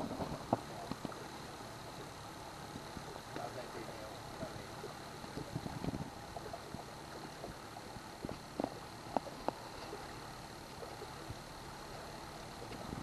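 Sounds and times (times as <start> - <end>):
outboard boat motor running: 0.0 - 13.0.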